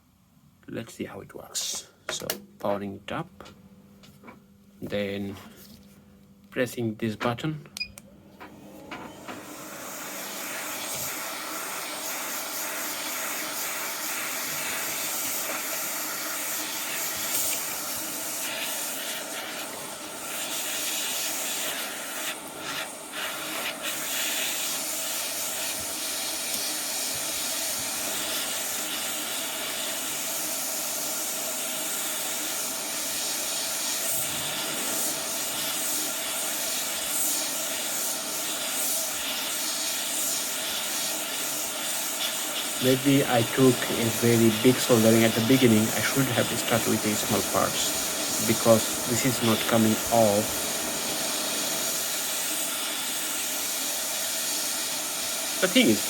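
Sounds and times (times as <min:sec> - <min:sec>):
hot air gun hissing: 0:09.2 - 0:56.0.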